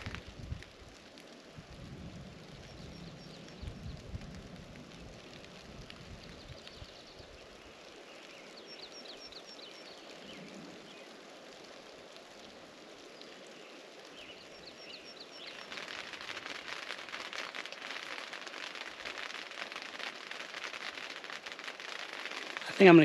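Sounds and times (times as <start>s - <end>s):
light rain pattering: 0.0s - 23.0s.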